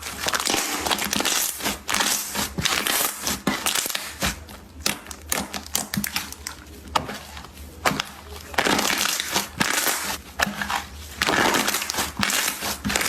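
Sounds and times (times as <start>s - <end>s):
slime crackling and popping: 0.0s - 13.0s
slime crunching: 0.0s - 13.0s.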